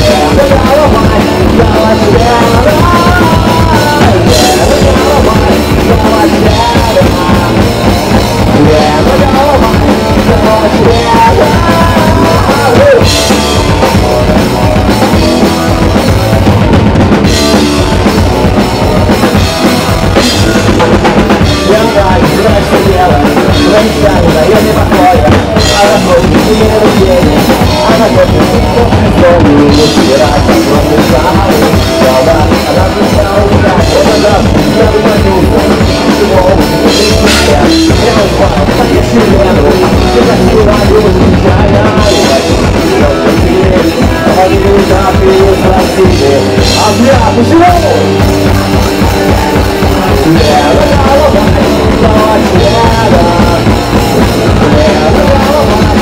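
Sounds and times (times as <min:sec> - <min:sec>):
live punk rock band: 0:00.0 - 0:56.0.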